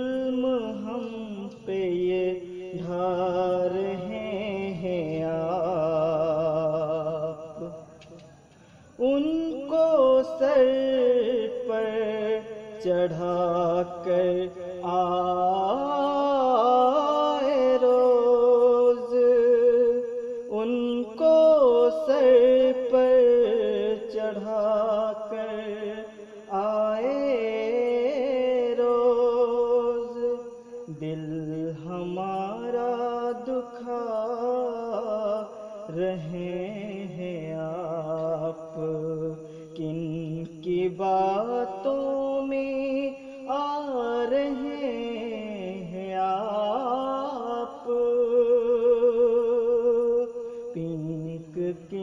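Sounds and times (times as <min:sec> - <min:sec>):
man singing unaccompanied: 0:00.0 - 0:52.0.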